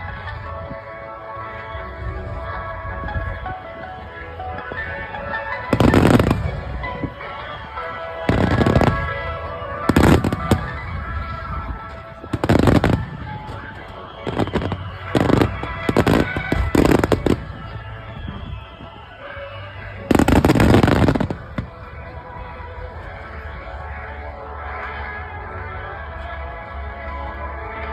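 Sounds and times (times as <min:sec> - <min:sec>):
music: 0:00.0 - 0:27.9.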